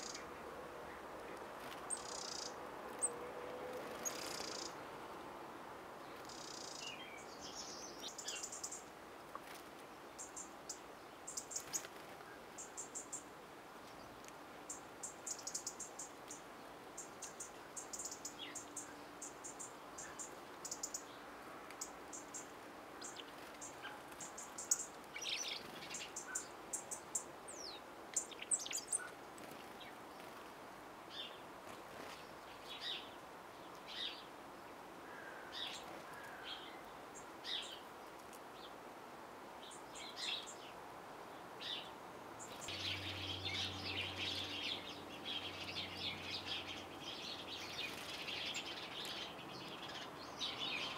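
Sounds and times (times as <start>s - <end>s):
small birds chirping: 0.0s - 5.2s, 6.0s - 38.8s, 39.6s - 50.9s.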